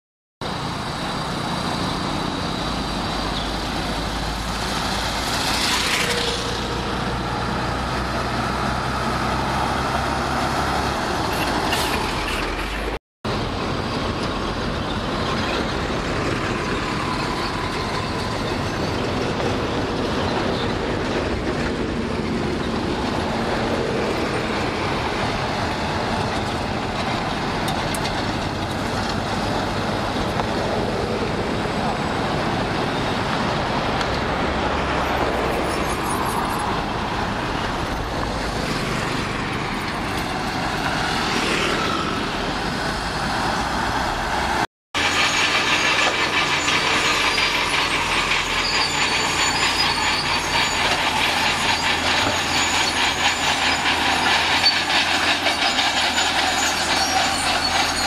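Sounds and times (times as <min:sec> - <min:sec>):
bulldozer diesel engine: 0:00.4 - 0:58.0
dump truck diesel engine: 0:00.4 - 0:58.0
road traffic: 0:00.4 - 0:58.0.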